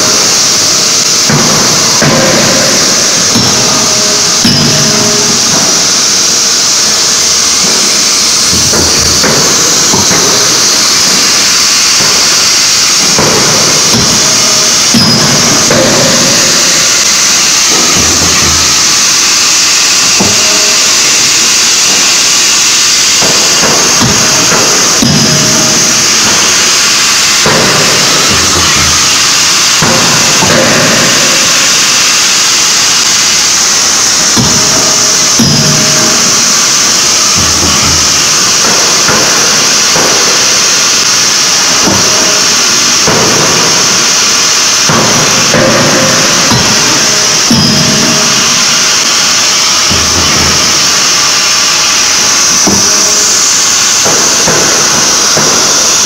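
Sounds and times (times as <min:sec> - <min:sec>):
forging hammer machinery with hiss: 0:00.0 - 0:56.0.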